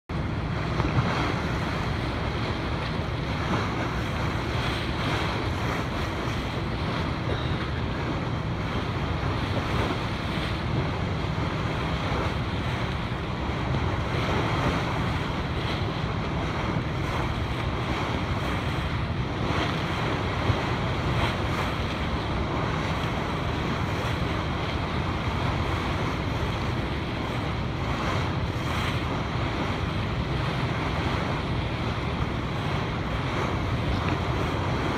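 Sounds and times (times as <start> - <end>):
low steady drone: 0.1 - 34.9
sea water slapping boat: 0.1 - 34.9
wind buffeting microphone: 0.1 - 34.9.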